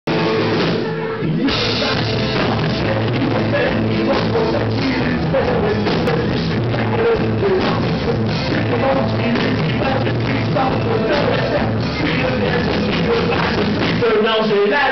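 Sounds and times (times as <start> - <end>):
drum kit and cymbals: 0.1 - 14.2
electric guitar: 0.1 - 14.9
man singing: 0.8 - 14.9.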